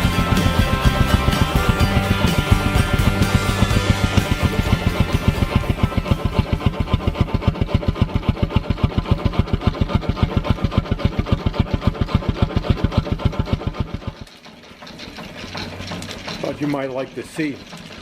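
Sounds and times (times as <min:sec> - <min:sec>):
steam engine running: 0:00.0 - 0:18.0.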